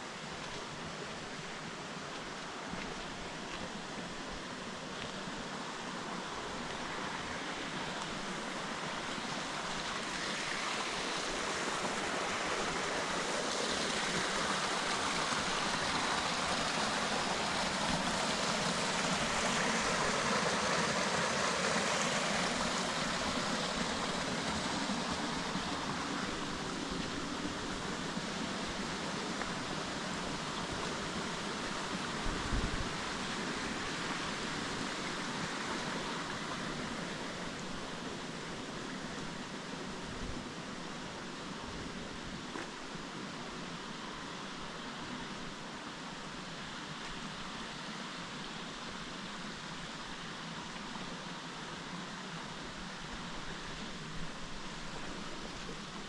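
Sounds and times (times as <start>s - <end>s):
forest stream rushing: 0.0s - 56.0s.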